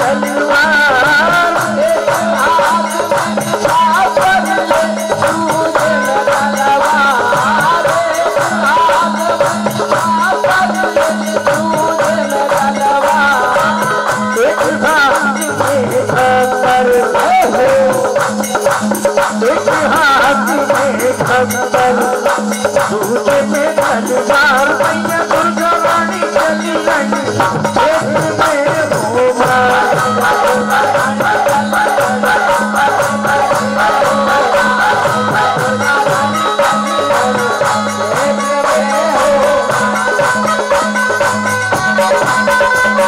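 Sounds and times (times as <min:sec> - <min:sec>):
dholak drum beat: 0:00.0 - 0:43.0
shaken percussion: 0:00.0 - 0:43.0.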